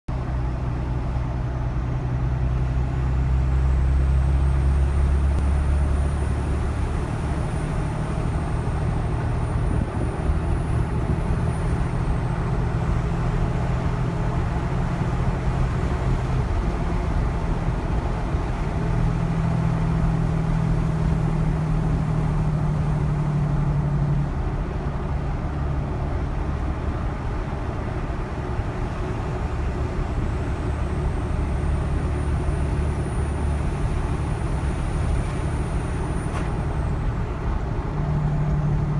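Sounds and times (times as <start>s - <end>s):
diesel truck engine drone: 0.1s - 38.9s.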